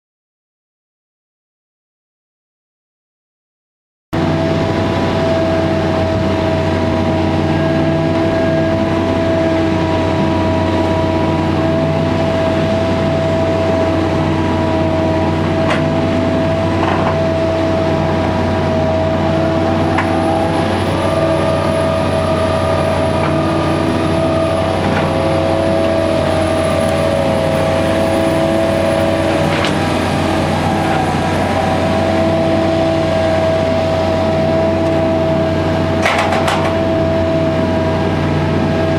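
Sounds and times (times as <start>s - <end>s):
high hydraulic whine: 4.2s - 38.9s
low engine drone: 4.2s - 38.9s.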